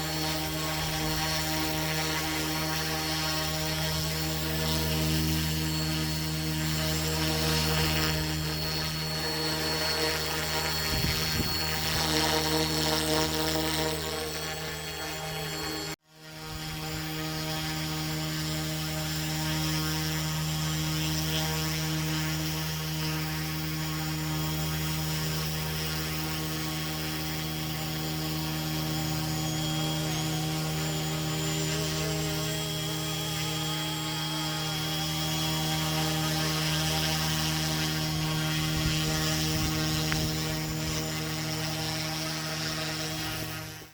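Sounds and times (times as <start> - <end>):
model helicopter rotor hum: 0.0 - 43.9.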